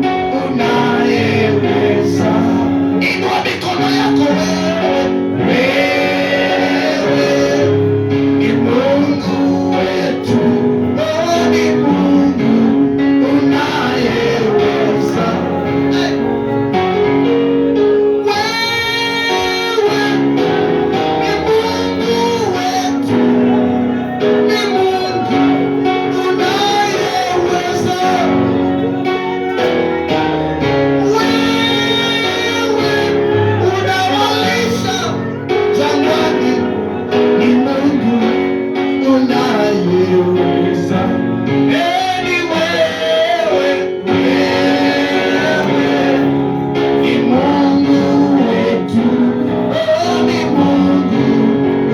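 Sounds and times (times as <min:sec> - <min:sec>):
guitar and band accompaniment: 0:00.0 - 0:51.9
person singing: 0:00.0 - 0:51.9.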